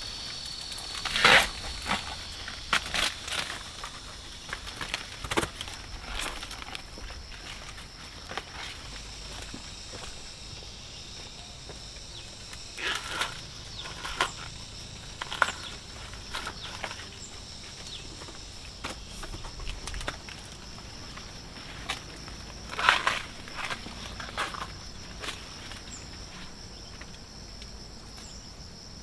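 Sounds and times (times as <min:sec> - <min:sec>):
rustles and crackles: 0:00.0 - 0:28.4.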